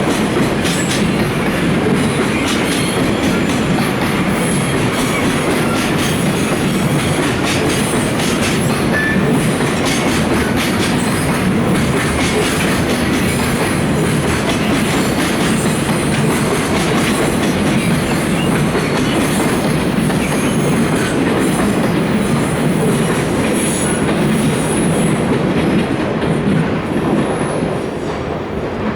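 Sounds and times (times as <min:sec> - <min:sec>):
train wheels clattering: 0:00.0 - 0:28.9.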